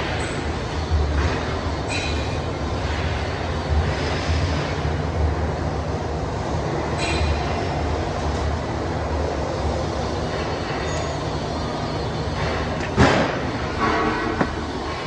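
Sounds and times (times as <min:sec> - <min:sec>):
workshop low rumble: 0:00.0 - 0:15.0.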